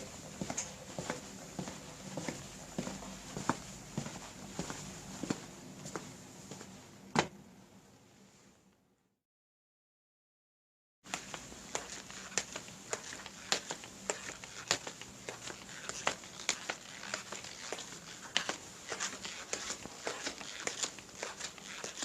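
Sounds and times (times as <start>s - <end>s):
footsteps clicking and scuffing: 0.0s - 7.3s, 11.1s - 22.0s.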